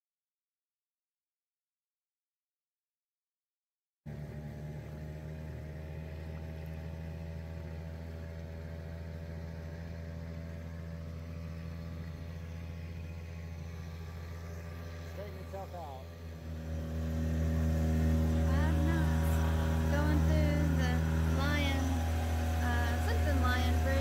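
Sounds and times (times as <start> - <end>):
outboard motor running: 4.1 - 24.0.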